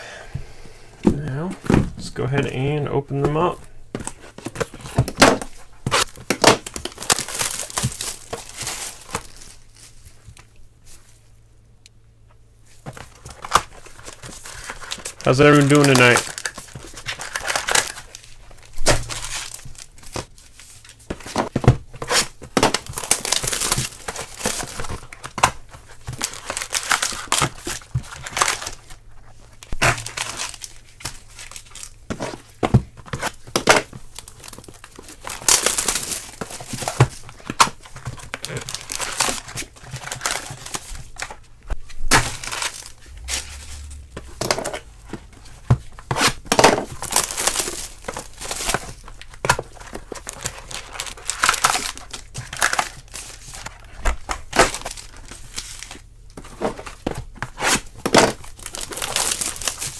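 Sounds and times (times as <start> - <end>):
plastic wrap crinkling: 2.0 - 11.2, 12.9 - 21.4, 22.0 - 59.9.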